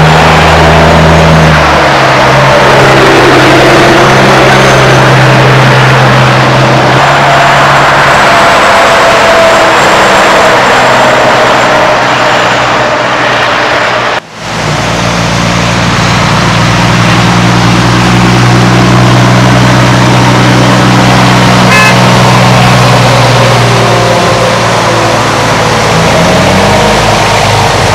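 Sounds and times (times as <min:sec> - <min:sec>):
heavy truck engine running: 0:00.0 - 0:27.9.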